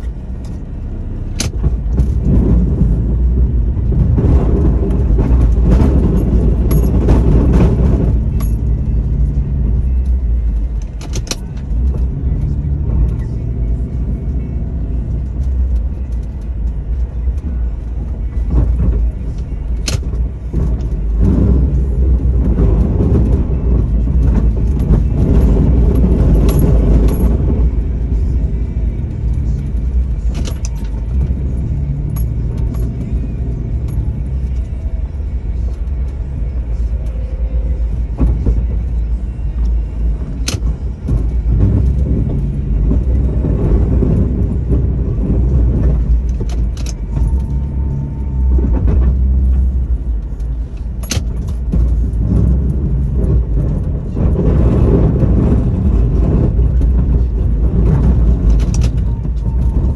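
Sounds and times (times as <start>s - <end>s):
truck engine drone: 0.0s - 59.9s.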